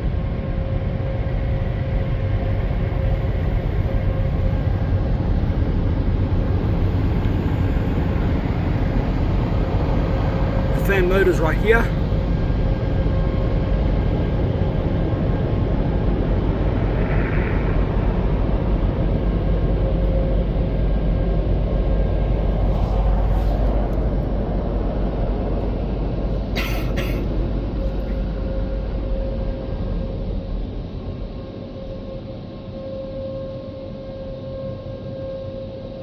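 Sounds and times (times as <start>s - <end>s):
dryer fans blowing air: 0.0s - 36.0s.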